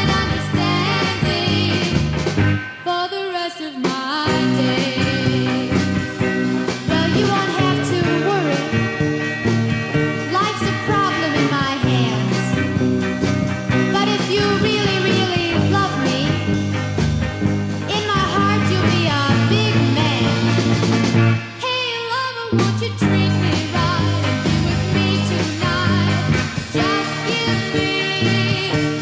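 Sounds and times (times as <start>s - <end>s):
rock music: 0.0s - 29.0s.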